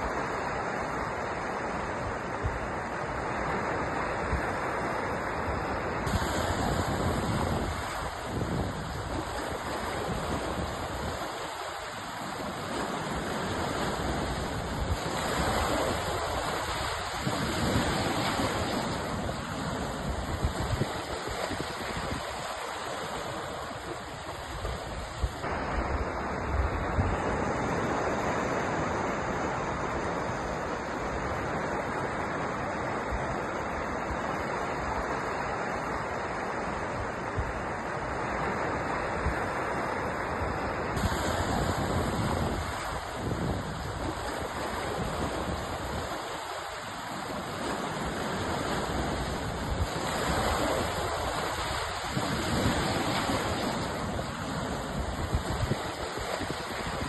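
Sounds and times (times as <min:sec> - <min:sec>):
sea waves breaking: 0:00.0 - 0:57.0.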